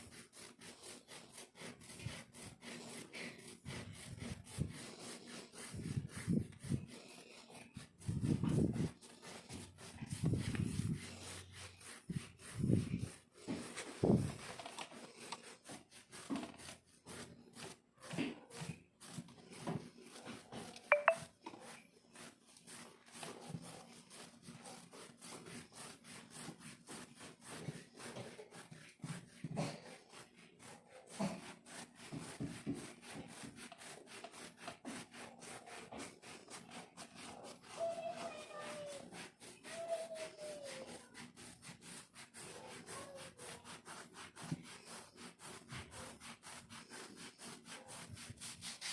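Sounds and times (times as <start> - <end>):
scratching dry skin: 0.0 - 48.9.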